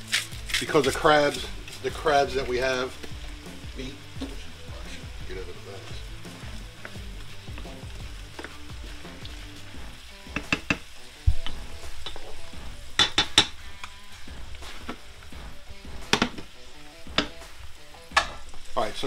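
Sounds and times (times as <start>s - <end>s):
onions sizzling in butter: 0.0s - 19.0s.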